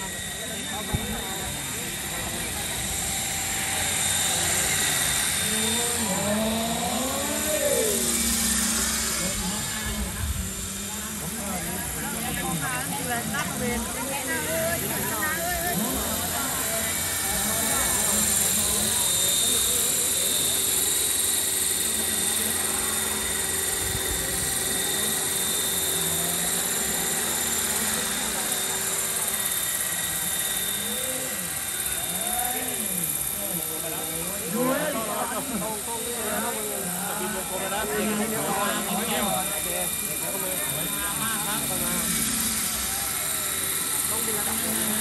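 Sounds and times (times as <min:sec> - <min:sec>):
helicopter rotor beat: 0:00.0 - 0:45.0
model helicopter motor whine: 0:00.0 - 0:45.0.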